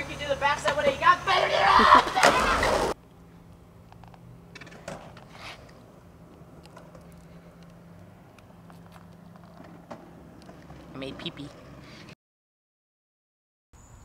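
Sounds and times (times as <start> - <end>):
skateboard wheels rolling on asphalt: 0.0 - 12.1.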